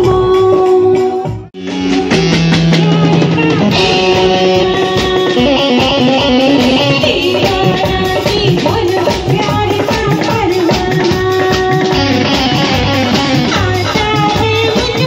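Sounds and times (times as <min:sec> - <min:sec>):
drum kit: 0:00.0 - 0:15.0
live band song: 0:00.0 - 0:15.0
guitar: 0:01.5 - 0:15.0.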